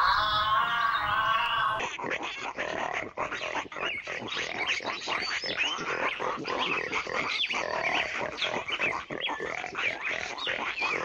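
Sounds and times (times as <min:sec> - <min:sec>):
birds chirping: 0:00.0 - 0:01.9, 0:03.7 - 0:11.0.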